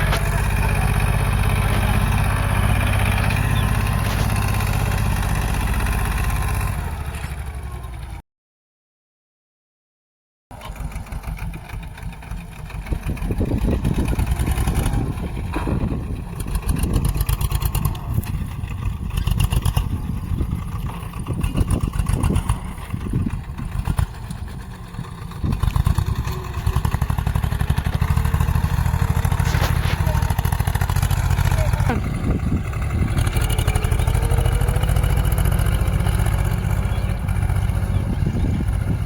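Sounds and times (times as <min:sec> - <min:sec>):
diesel tractor engine running: 0:00.0 - 0:08.2, 0:10.5 - 0:39.0.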